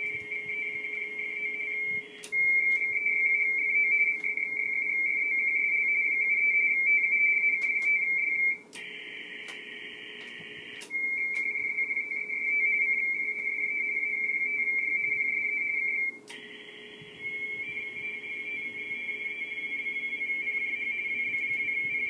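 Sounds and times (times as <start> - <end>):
faint low hum: 0.0 - 22.0
warbling two-tone radio signal: 0.0 - 22.0.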